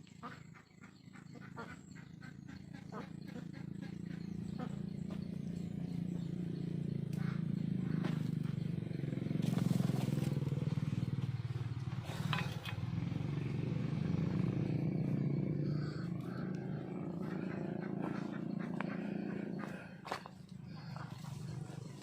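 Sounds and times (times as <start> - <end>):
engine running with low hum: 0.0 - 22.0.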